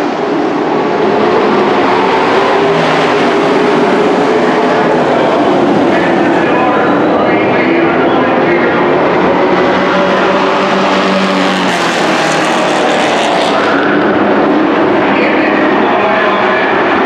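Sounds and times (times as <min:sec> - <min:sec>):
racing truck engines revving: 0:00.0 - 0:17.0.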